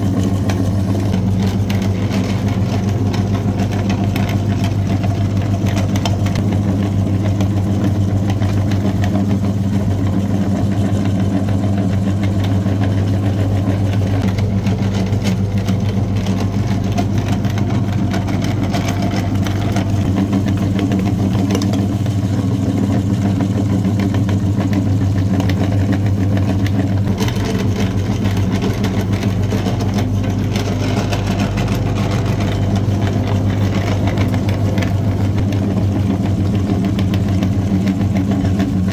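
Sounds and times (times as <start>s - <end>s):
steady mechanical drone: 0.0s - 38.9s.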